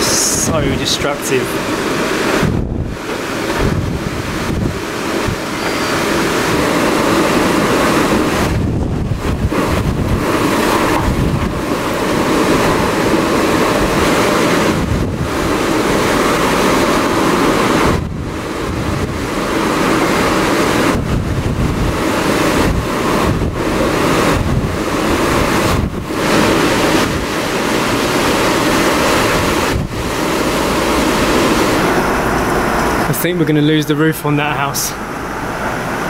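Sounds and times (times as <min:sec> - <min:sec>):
strong wind blowing: 0:00.0 - 0:36.0
surf crashing: 0:00.0 - 0:36.0.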